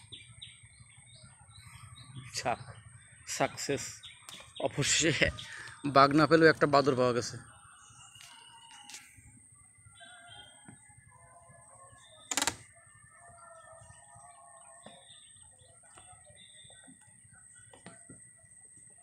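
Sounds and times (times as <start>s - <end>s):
faint bird calls and chirps: 0.0s - 19.0s.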